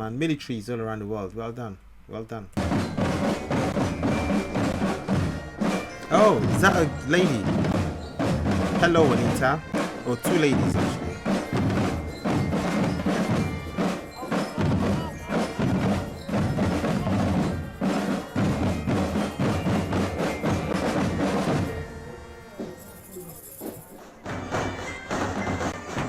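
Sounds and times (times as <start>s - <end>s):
drums: 1.8s - 26.0s
bell-like mallet percussion: 2.6s - 26.0s
marching band playing a march: 2.6s - 26.0s.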